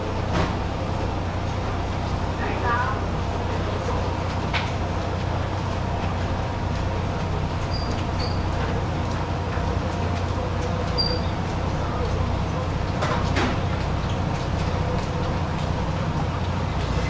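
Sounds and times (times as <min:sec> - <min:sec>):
low rumble of road noise: 0:00.0 - 0:17.0.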